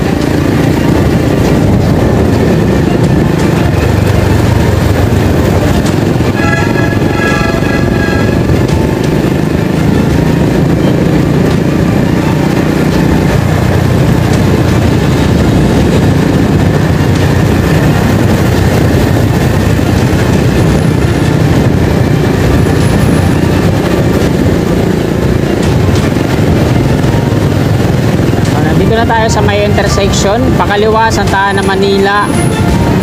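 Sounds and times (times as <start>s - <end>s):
road noise: 0.0s - 33.0s
vehicle engine drone: 0.0s - 33.0s.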